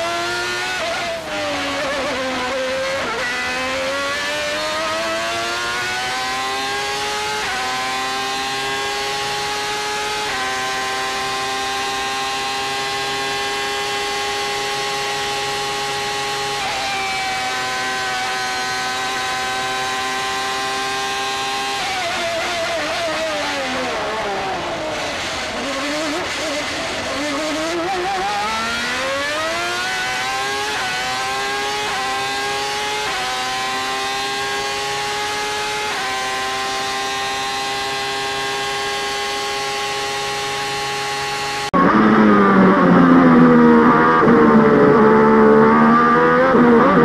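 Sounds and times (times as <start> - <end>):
racing car engine revving: 0.0 - 47.0.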